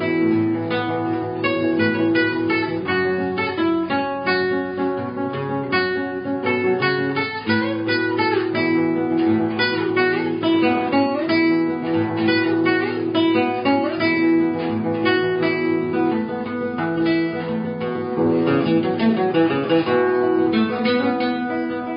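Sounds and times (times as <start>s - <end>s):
acoustic guitar: 0.0s - 21.9s.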